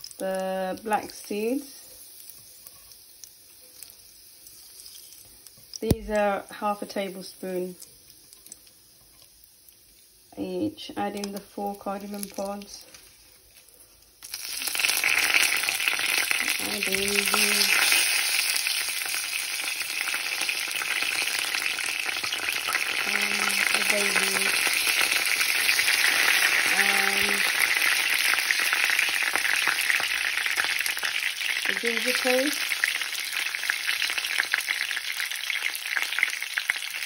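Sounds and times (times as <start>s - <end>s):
spices sizzling in hot oil: 0.0s - 37.0s.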